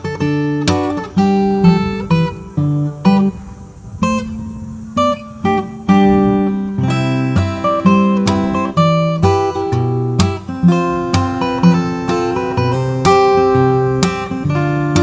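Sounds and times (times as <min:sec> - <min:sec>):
acoustic guitar plucked and strummed: 0:00.0 - 0:15.0.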